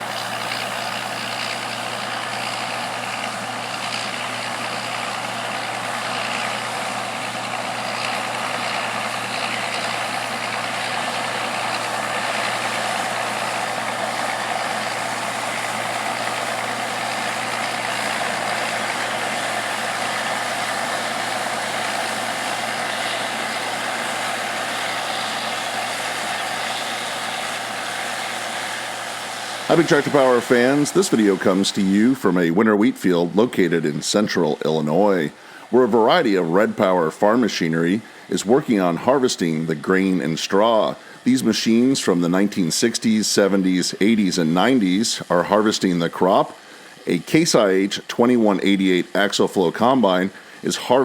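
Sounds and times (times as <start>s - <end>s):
heavy machinery engine hum: 0.0s - 51.0s.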